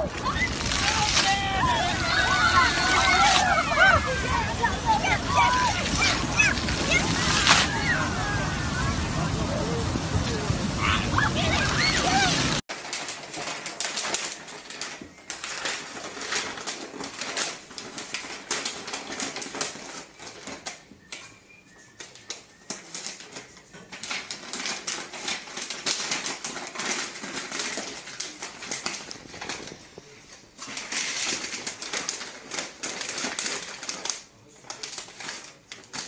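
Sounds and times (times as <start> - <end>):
tissue paper crinkling: 0.0 - 20.8, 22.7 - 36.0.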